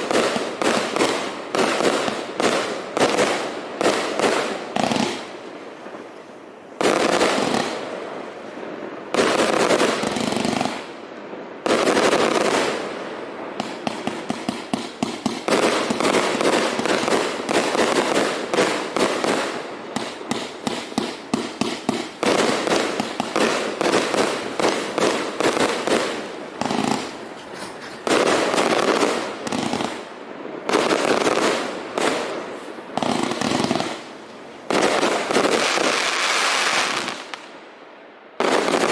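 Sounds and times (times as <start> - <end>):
fireworks volleys with crackling: 0.0 - 38.9.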